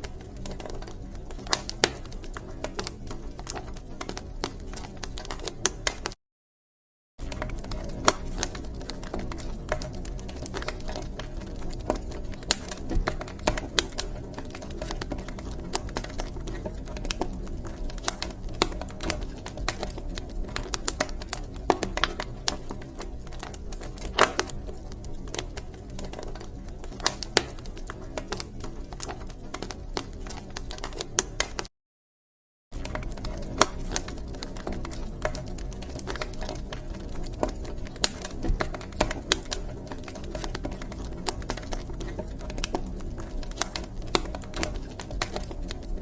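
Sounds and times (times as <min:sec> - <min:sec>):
wood fire crackling and popping: 0:00.0 - 0:06.2, 0:07.2 - 0:31.7, 0:32.8 - 0:46.0.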